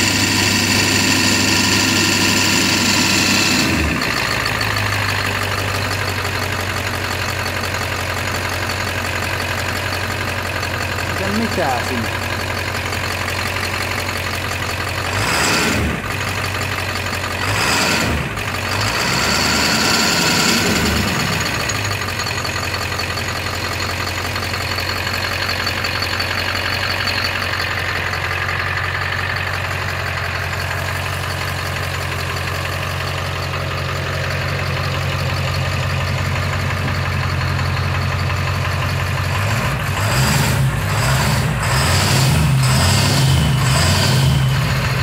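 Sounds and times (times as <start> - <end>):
diesel engine revving and idling: 0.0 - 45.0.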